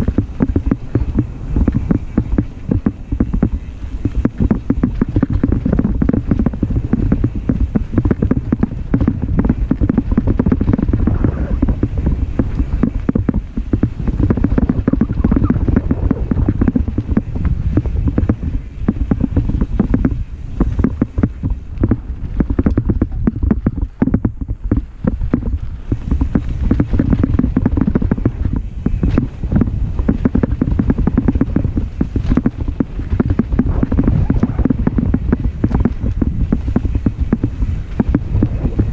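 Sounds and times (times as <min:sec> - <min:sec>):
bike rattling knocks: 0:00.0 - 0:38.9
tyres rumbling on dirt: 0:00.0 - 0:38.9
wind on microphone: 0:00.0 - 0:38.9.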